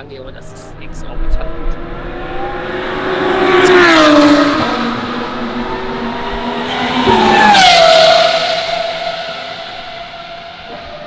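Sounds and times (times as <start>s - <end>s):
race car passing by: 0.7s - 11.0s
second race car approaching: 0.7s - 11.0s.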